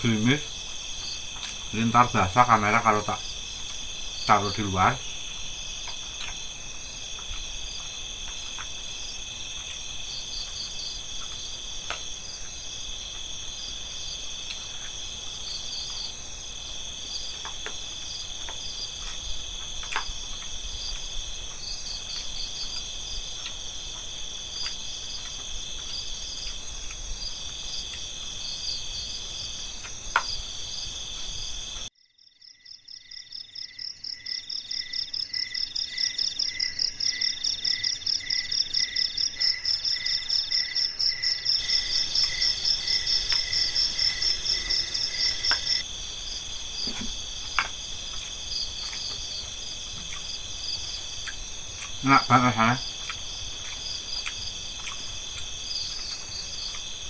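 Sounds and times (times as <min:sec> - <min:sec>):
crickets trilling: 0:00.0 - 0:57.0
pulsing insect call: 0:00.0 - 0:57.0.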